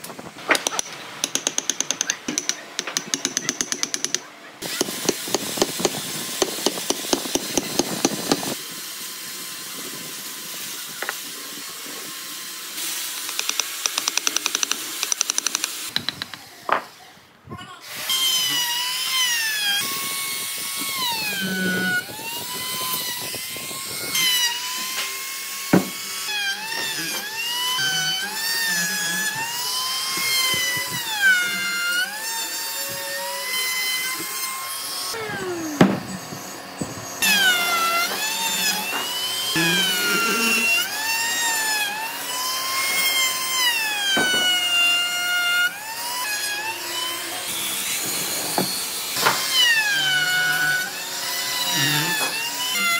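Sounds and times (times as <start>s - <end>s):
electric router cutting wood: 4.6s - 16.0s, 17.9s - 52.9s.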